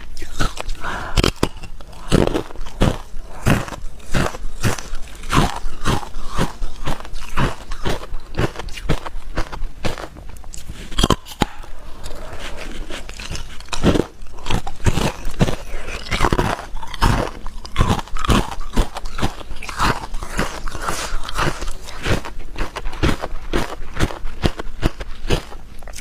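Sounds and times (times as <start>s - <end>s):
ice crunching while chewed: 0.0s - 26.0s.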